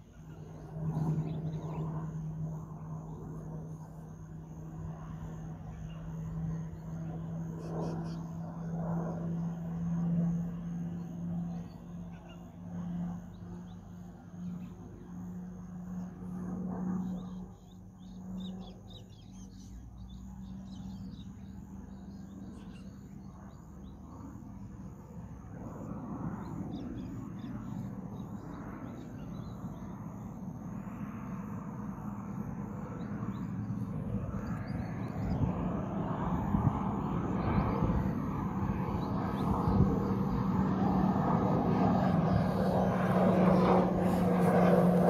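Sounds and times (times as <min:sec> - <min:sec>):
distant aircraft droning: 0:00.0 - 0:45.0.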